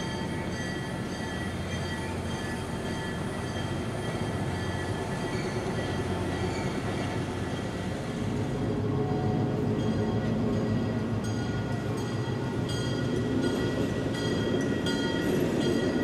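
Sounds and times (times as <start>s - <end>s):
diesel locomotive rumbling: 0.0s - 16.0s.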